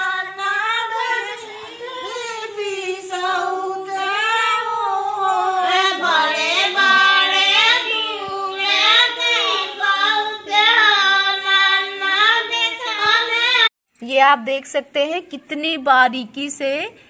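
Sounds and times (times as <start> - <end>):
women singing unaccompanied: 0.0 - 13.7.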